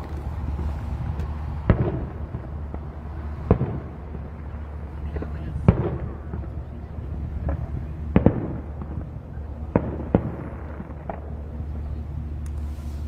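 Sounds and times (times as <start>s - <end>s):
fireworks bangs: 0.0s - 12.0s
steady low hum: 0.0s - 13.0s.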